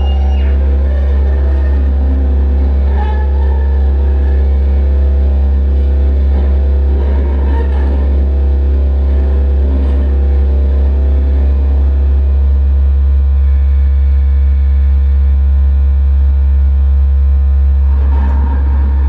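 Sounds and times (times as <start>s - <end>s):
deep electronic drone: 0.0s - 19.0s.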